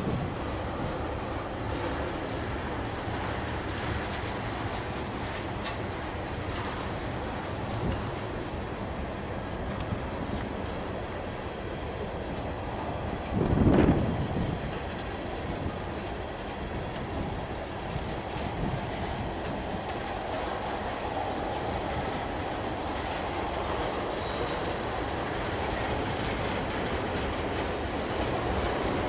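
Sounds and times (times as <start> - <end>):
train wheels rumbling: 0.0 - 29.0
wheels clicking over rail joints: 0.0 - 29.0.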